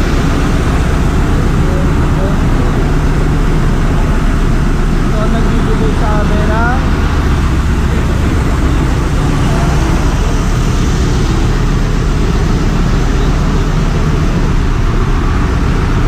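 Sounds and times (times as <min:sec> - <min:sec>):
engine-room machinery drone: 0:00.0 - 0:16.0.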